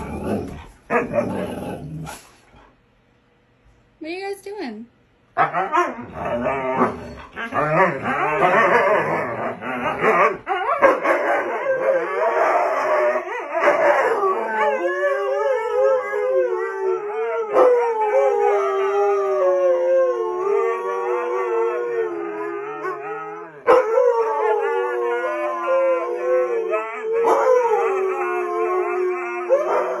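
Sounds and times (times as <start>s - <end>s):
huskies howling: 5.4s - 30.0s.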